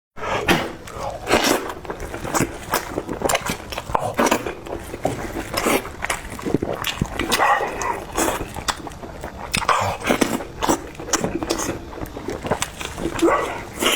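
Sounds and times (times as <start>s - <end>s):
chewing and crunching food: 0.2s - 13.9s.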